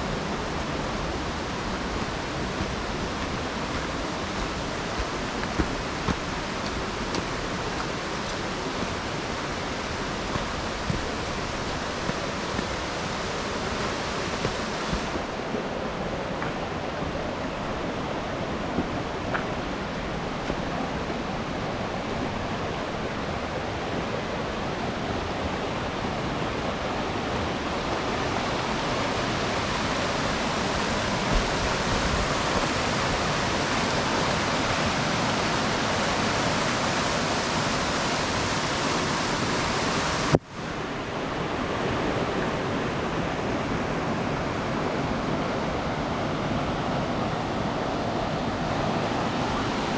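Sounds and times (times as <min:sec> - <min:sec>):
stream and waterfalls rushing: 0:00.0 - 0:49.9.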